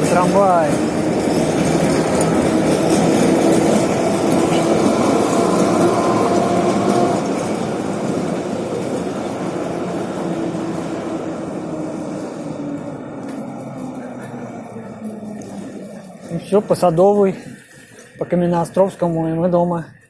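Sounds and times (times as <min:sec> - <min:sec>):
tram rumbling on rails: 0:00.0 - 0:20.0.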